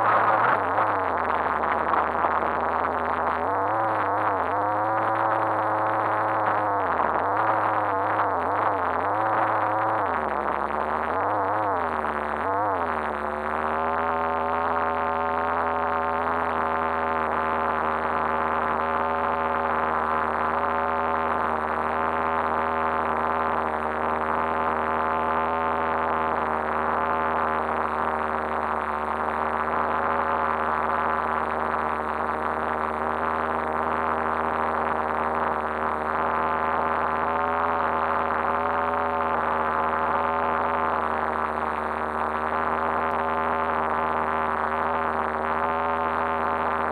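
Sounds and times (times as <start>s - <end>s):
small engine idling muffled: 0.0s - 46.9s.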